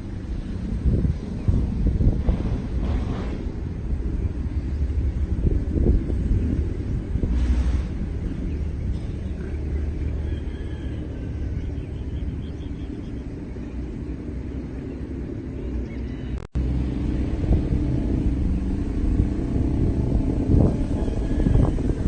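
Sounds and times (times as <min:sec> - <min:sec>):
distant traffic: 0:00.0 - 0:22.0
wind on microphone: 0:00.0 - 0:22.0.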